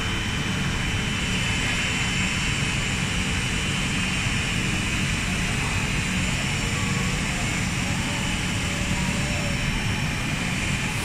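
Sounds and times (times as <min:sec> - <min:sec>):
faint high whine: 0:00.0 - 0:11.0
machinery drone with low hum: 0:00.0 - 0:11.0.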